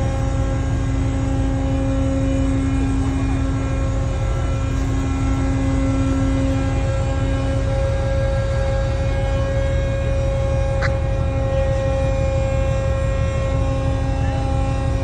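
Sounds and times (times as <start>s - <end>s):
constant droning hum: 0.0s - 15.0s
heavy machinery rumbling: 0.0s - 15.0s.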